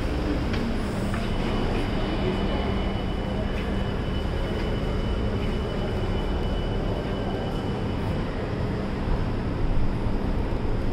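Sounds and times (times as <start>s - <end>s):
faint high whine: 0.0s - 10.9s.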